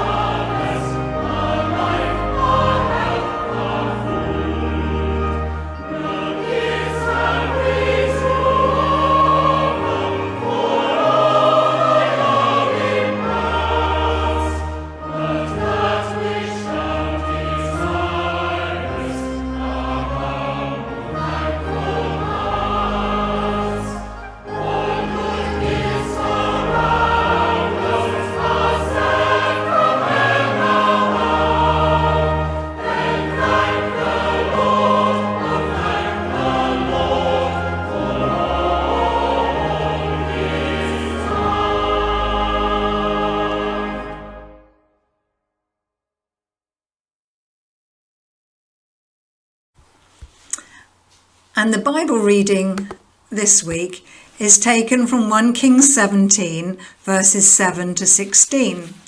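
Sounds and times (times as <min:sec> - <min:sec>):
choir singing a hymn: 0:00.0 - 0:44.7, 0:51.6 - 0:59.0.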